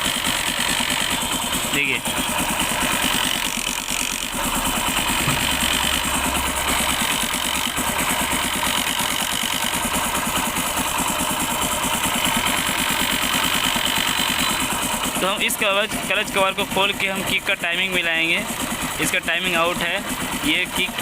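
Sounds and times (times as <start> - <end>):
kick-start ratchet chattering: 0.0 - 21.0
motorcycle engine idling: 0.0 - 21.0.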